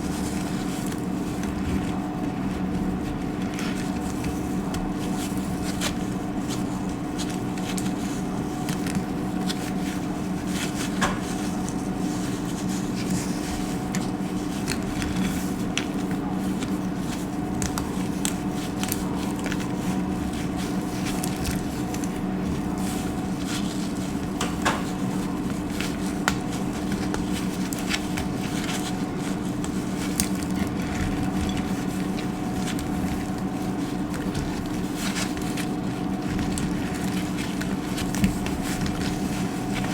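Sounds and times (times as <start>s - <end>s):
dry soap crunching: 0.1s - 39.9s.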